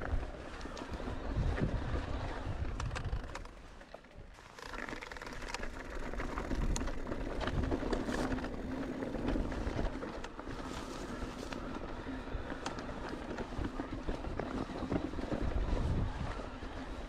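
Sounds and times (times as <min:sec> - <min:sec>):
bike tyre rumble and rattle: 0:00.0 - 0:17.0.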